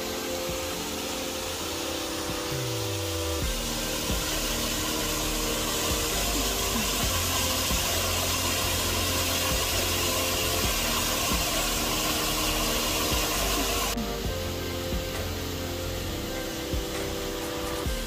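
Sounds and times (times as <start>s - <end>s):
waterfall pouring over rocks: 0.0s - 18.0s.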